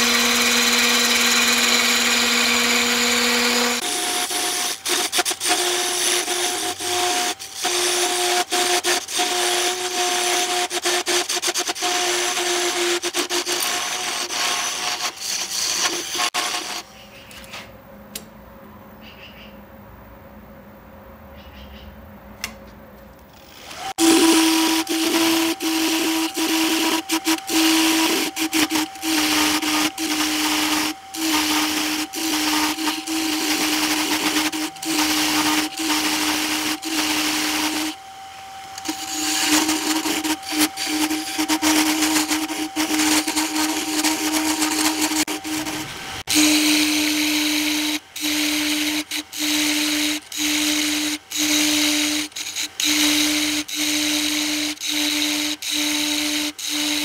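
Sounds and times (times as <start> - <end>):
wood lathe humming: 0.0 - 16.8, 23.5 - 57.0
tool cutting wood hissing: 0.0 - 16.9, 23.4 - 57.0.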